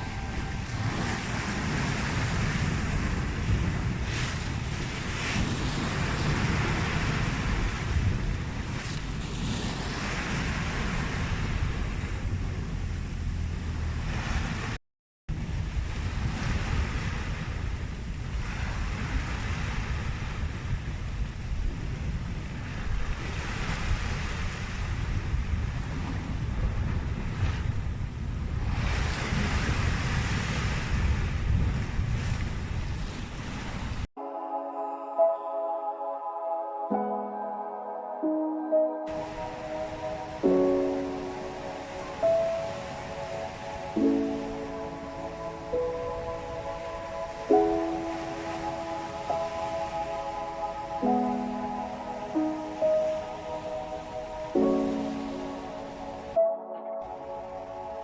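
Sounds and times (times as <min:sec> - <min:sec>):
wind rumbling on microphone: 0:00.0 - 0:34.1, 0:39.1 - 0:56.4
sea waves washing ashore: 0:00.0 - 0:58.0.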